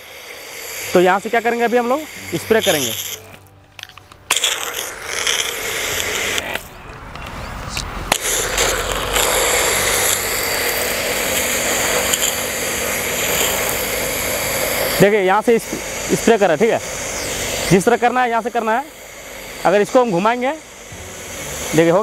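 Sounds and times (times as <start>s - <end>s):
pressure washer water spray: 0.0s - 3.5s, 4.3s - 6.7s, 8.1s - 22.0s
motor hum: 0.0s - 6.7s, 8.0s - 22.0s.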